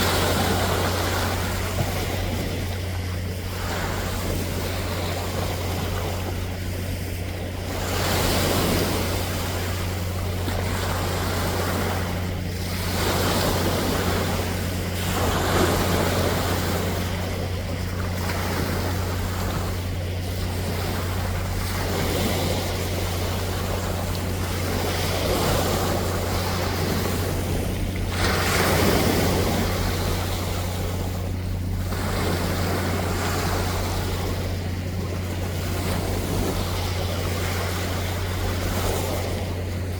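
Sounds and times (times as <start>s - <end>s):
sea waves breaking: 0.0s - 39.9s
steady low hum: 0.0s - 39.9s.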